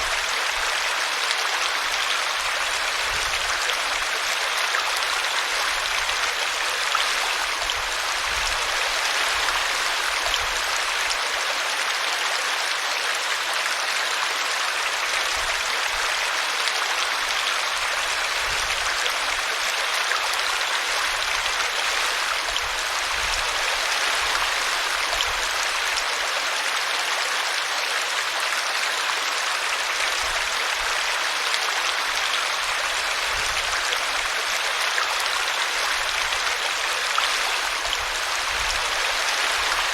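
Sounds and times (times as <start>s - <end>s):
brook water babbling: 0.0s - 39.9s.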